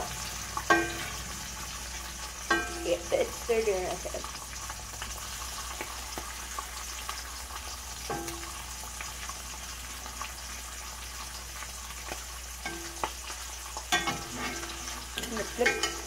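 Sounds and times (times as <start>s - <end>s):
fish frying in oil: 0.0s - 16.0s.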